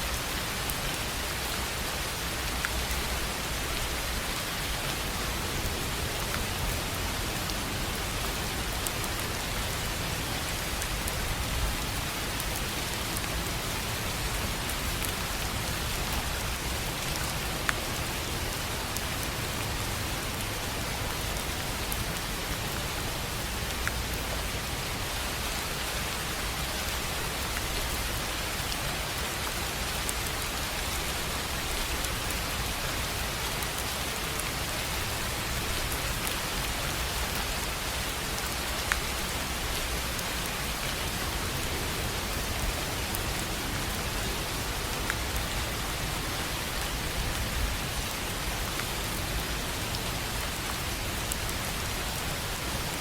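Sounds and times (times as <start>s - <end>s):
rain on a tin roof: 0.0s - 53.0s.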